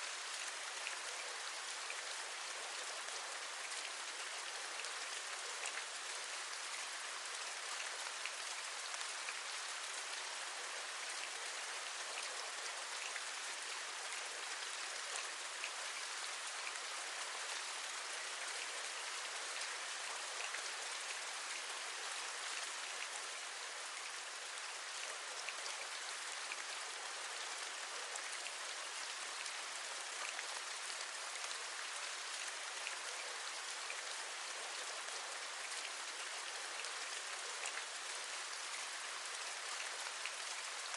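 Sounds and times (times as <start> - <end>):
raindrops ticking on a surface: 0.0 - 40.9
steady rain falling: 0.0 - 40.9.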